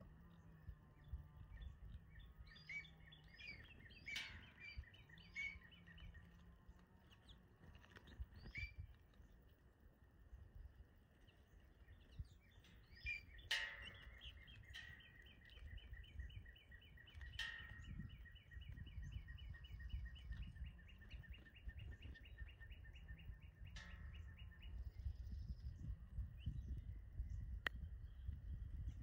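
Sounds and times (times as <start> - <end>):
low steady rumble: 0.0 - 29.0
songbird chirping: 0.0 - 29.0.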